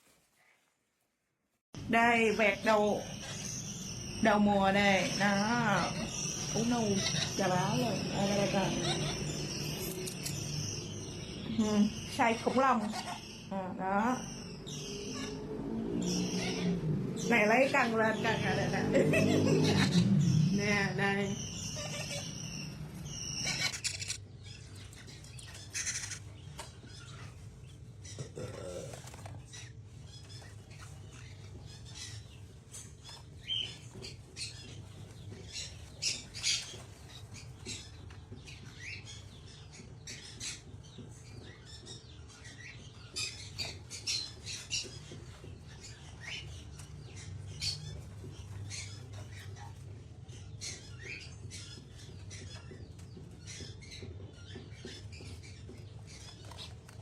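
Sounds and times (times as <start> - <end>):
parrots chirping and squawking: 2.5 - 57.0.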